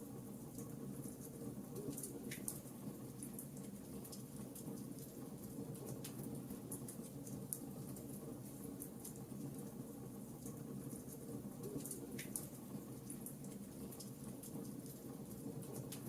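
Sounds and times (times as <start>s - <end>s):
wood fire crackling: 0.6s - 16.0s.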